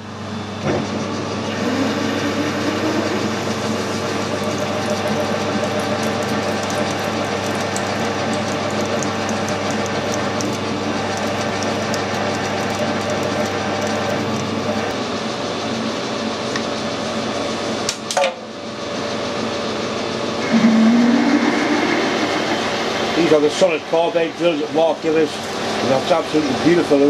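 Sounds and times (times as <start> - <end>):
lathe motor whine: 0.0 - 17.8, 19.2 - 27.0.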